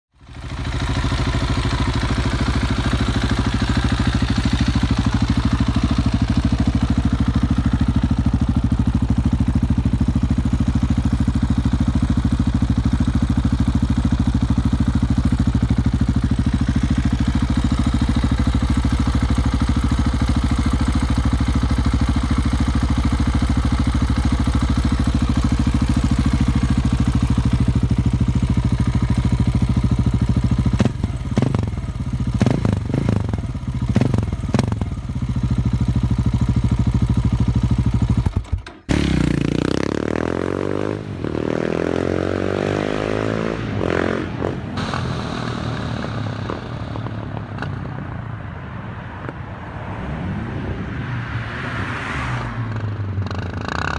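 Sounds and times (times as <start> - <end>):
motorcycle engine idling: 0.2 - 48.0.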